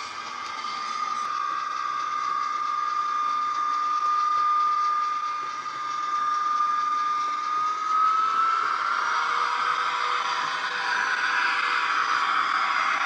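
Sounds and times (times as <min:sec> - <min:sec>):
model locomotive high whine: 0:00.0 - 0:13.0.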